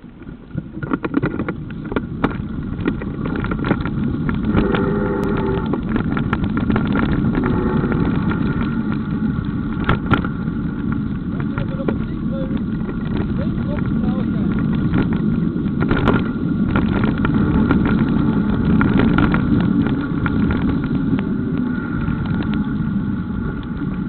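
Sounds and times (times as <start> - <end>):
bike tyres rumbling on gravel: 0.0 - 24.0
stones and bike clicking: 0.0 - 24.0.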